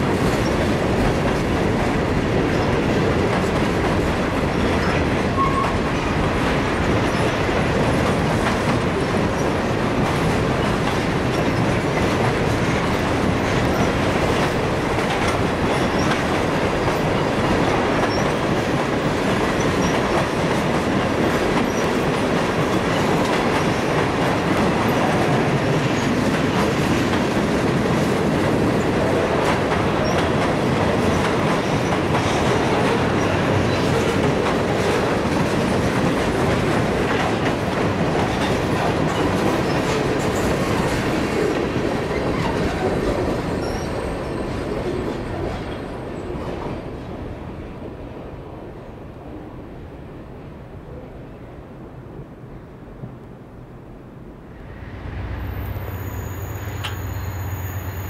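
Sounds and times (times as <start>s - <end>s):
train wheels rolling on rail: 0.0s - 50.5s, 51.9s - 58.0s.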